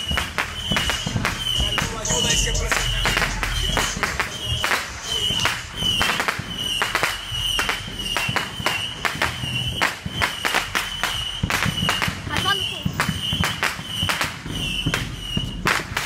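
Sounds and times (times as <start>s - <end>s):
fireworks popping and banging: 0.0s - 16.0s.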